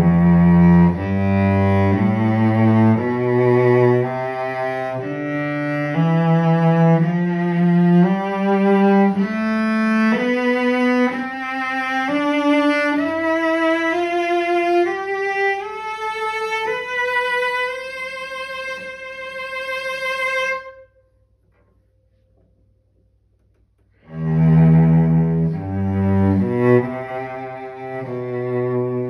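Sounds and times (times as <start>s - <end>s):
cello bowed in a rising scale: 0.0s - 20.9s, 24.0s - 29.0s.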